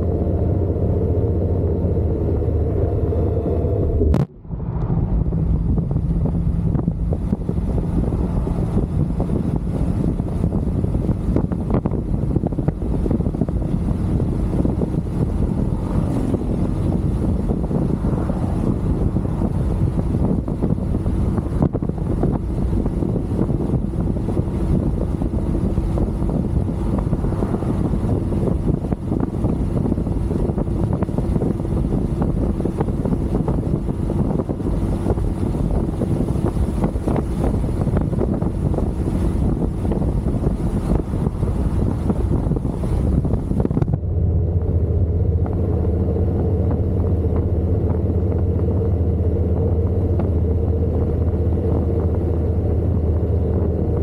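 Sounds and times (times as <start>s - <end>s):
motorcycle noise: 0.0s - 54.0s
wind buffeting microphone: 0.0s - 54.0s.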